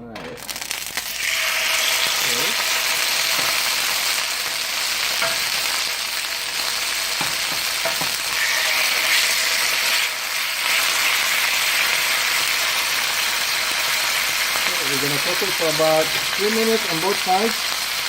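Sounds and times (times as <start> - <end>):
chicken sizzling in hot oil: 0.4 - 18.0.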